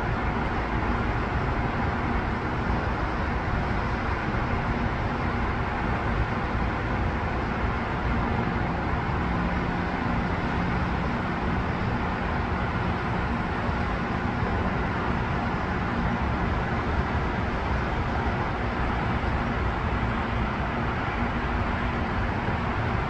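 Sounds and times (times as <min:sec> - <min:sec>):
highway traffic: 0:00.0 - 0:23.0.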